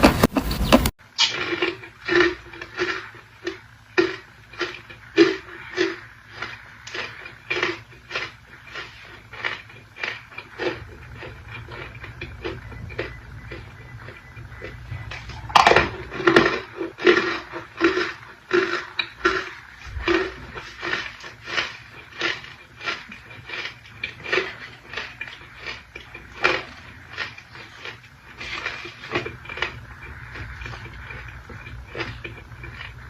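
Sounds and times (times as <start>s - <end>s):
crunching and chewing: 0.0s - 33.0s.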